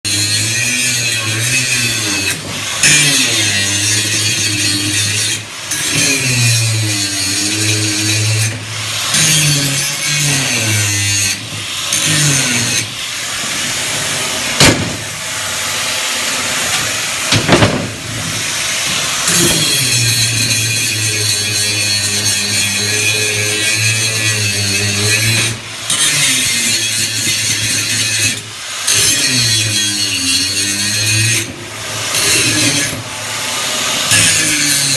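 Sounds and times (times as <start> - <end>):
angle grinder grinding steel: 0.1 - 34.9.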